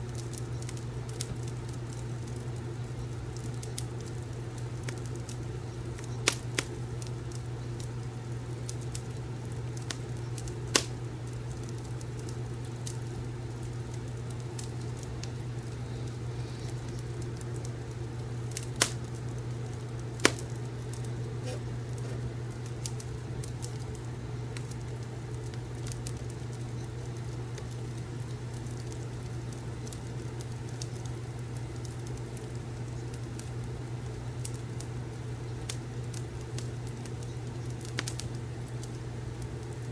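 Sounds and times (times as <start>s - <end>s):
fireplace crackling and popping: 0.0s - 39.9s
soft hiss: 0.0s - 39.9s
steady low hum: 0.0s - 39.9s.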